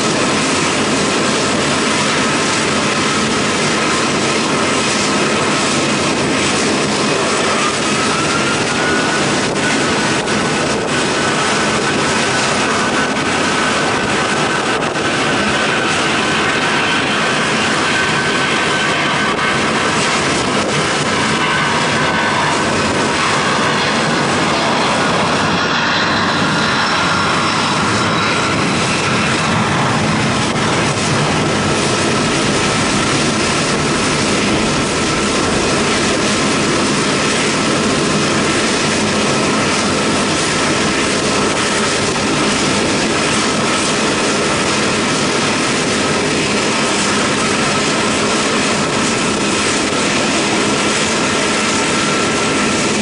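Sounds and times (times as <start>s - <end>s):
jet engines at taxi power: 0.0s - 53.0s.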